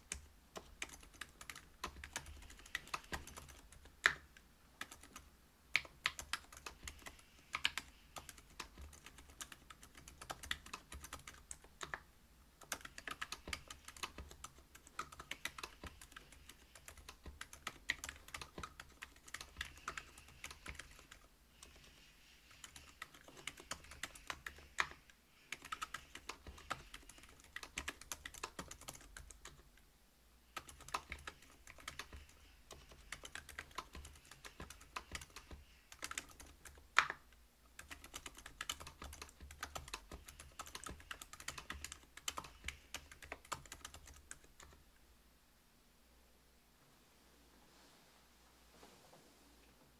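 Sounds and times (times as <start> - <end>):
mechanical keyboard typing: 0.0 - 12.0, 12.6 - 29.7, 30.6 - 37.2, 37.8 - 44.8.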